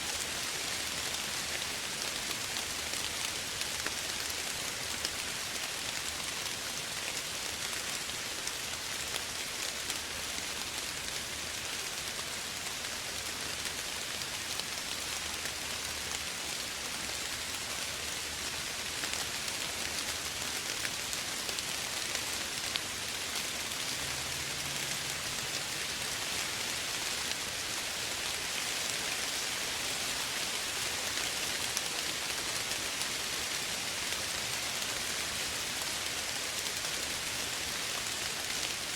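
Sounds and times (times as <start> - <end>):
soft rain falling: 0.0 - 38.9.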